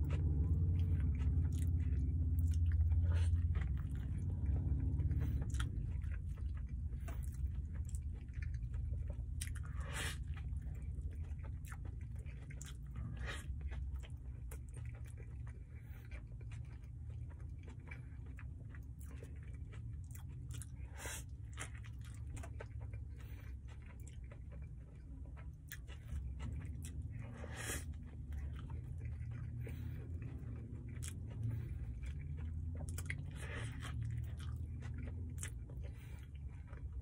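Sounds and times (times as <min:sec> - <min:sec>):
chewing mouth sounds: 0:00.0 - 0:37.0
low rumble: 0:00.0 - 0:37.0.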